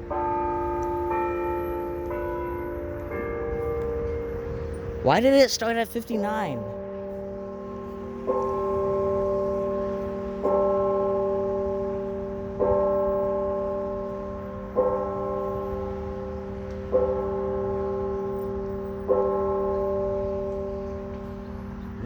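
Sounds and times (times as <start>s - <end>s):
church bell tolling: 0.0s - 22.0s.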